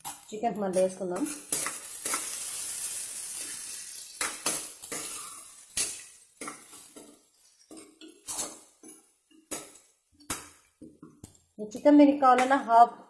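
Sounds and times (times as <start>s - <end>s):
frying sizzle: 0.0s - 12.7s.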